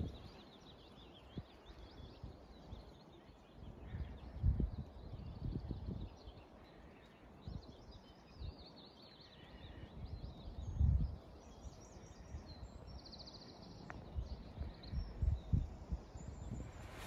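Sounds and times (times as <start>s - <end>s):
wind rumbling on microphone: 0.0s - 8.7s, 9.4s - 17.0s
songbirds chirping and singing: 0.0s - 16.8s.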